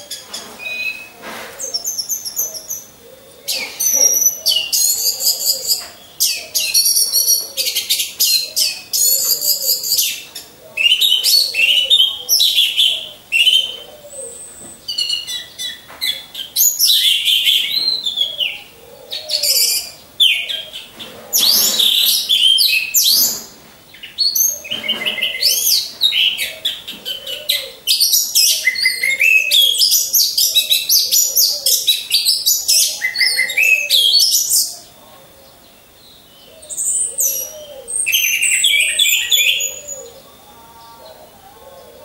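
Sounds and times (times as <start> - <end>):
thrushes singing: 0.0 - 42.0.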